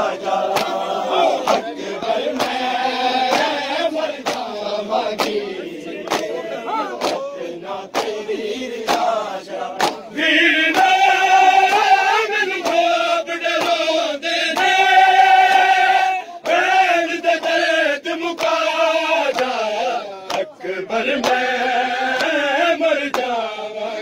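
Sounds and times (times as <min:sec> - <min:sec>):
crowd of men chanting: 0:00.0 - 0:24.0
hand slaps on chests: 0:00.4 - 0:16.7, 0:18.3 - 0:21.5, 0:22.1 - 0:22.4, 0:23.0 - 0:23.4.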